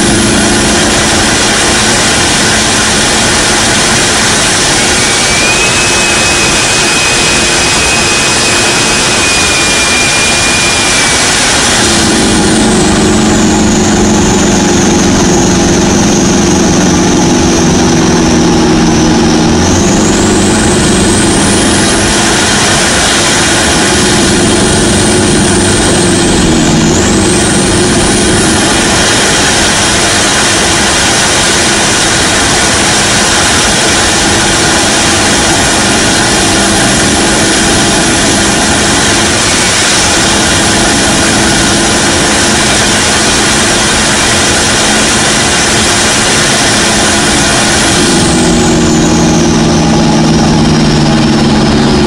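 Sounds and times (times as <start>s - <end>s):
diesel engine drone: 0.0s - 52.0s
road noise: 0.0s - 52.0s
wind noise: 0.0s - 52.0s.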